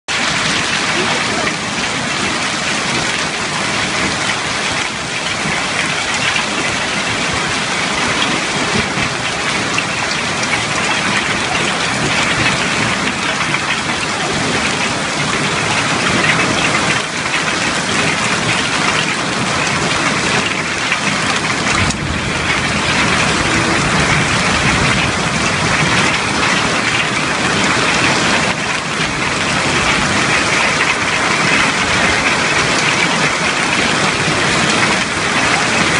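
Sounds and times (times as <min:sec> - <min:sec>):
heavy hail and rain: 0:00.1 - 0:35.9.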